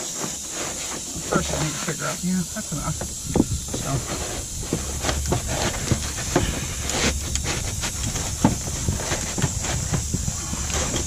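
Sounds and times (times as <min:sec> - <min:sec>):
roofing felt rustling and crackling: 0:00.0 - 0:11.0
scrapes: 0:00.0 - 0:11.0
steady hiss: 0:00.0 - 0:11.0.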